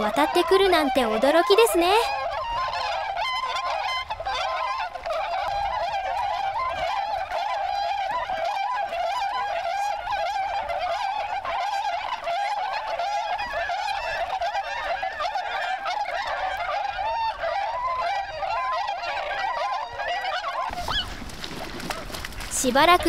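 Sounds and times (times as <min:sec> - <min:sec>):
swans calling: 0:00.0 - 0:23.0.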